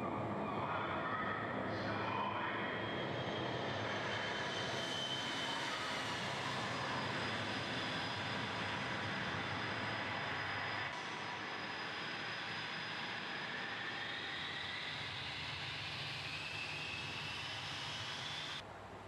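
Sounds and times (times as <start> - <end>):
jet engine roar over loudspeakers: 0.1 - 18.6.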